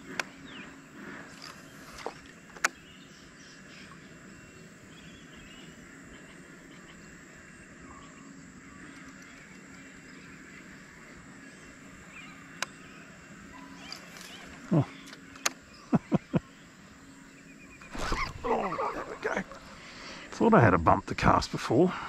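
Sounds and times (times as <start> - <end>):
distant bird calls: 0.0 - 22.0
faint riverside ambience: 0.0 - 22.0.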